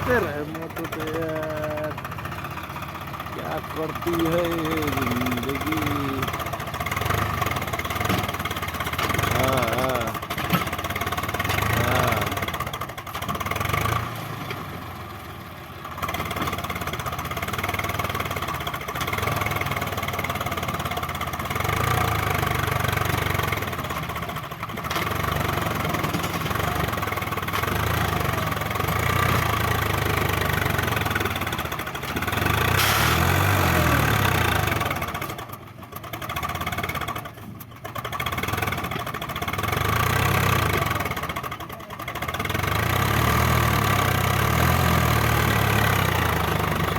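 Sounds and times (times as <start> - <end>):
tractor diesel engine revving: 0.0 - 46.9.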